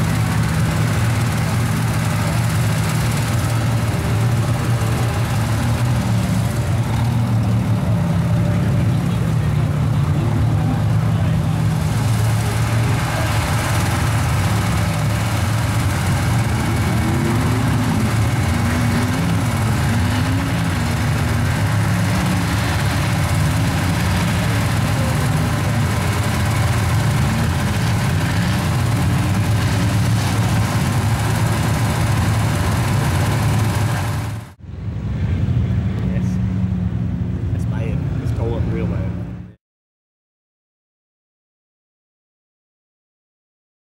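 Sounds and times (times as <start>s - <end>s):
truck engine rumbling: 0.0s - 39.6s.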